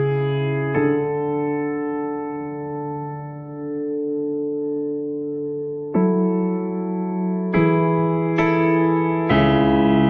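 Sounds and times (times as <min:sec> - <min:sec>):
slow keyboard chords: 0:00.0 - 0:10.0.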